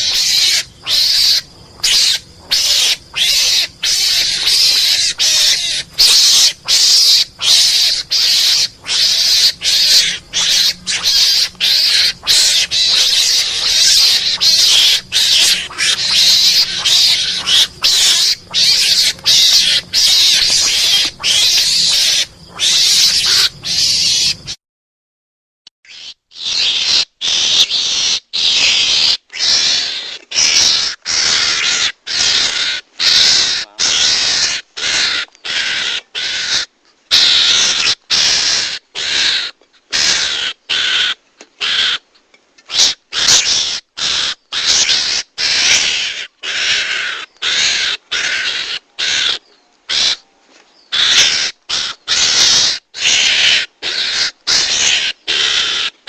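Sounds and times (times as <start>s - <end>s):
harsh raspy animal calls: 0.0s - 24.6s, 25.9s - 50.2s, 50.9s - 56.0s.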